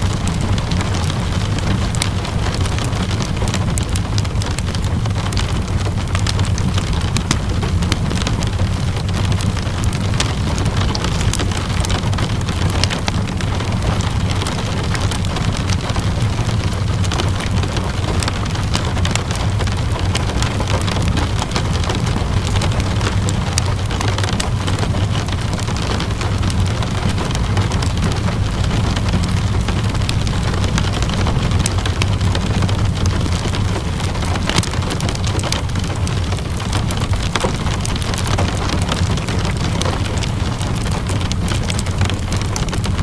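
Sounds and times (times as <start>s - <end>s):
steady rainfall: 0.0s - 43.0s
wood fire crackling: 0.0s - 43.0s.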